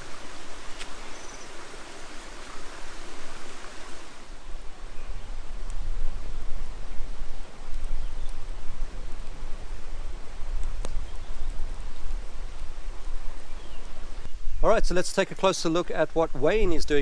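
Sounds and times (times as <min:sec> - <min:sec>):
wind rumble on microphone: 0:00.0 - 0:14.8
campfire crackling: 0:00.0 - 0:17.0.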